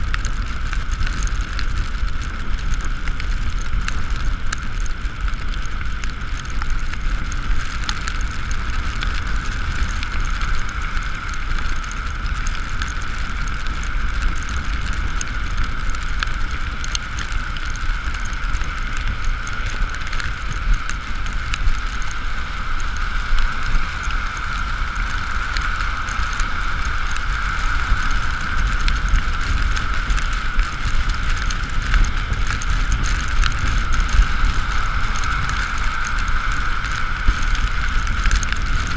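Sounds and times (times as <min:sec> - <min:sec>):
tyre and rain hiss: 0:00.0 - 0:38.9
wind rumble on microphone: 0:00.0 - 0:38.9.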